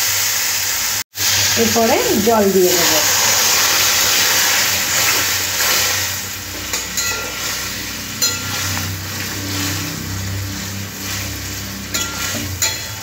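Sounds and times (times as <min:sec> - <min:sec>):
water sizzling in hot wok: 0:00.0 - 0:13.0.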